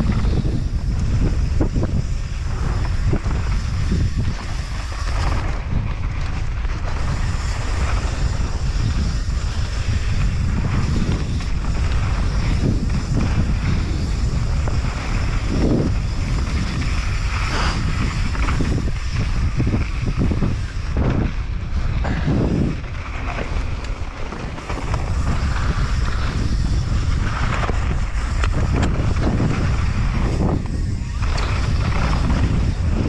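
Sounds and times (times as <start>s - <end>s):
bike knocks and rattles: 0.0s - 33.0s
tyres rumbling on dirt trail: 0.0s - 33.0s
wind rushing over microphone: 0.0s - 33.0s.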